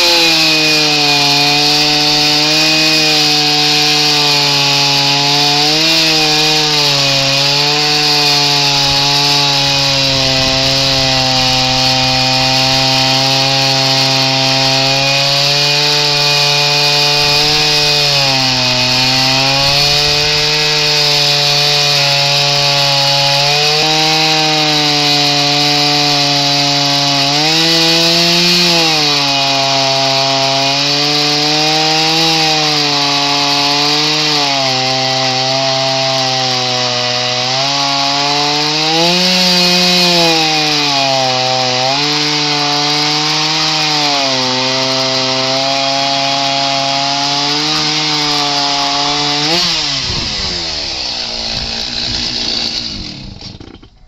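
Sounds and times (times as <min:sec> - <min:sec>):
chainsaw cutting log at full throttle: 0:00.0 - 0:54.0.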